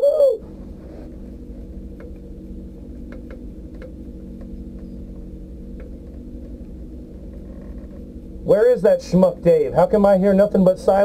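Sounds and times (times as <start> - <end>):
race car engine idling: 0.2 - 11.0.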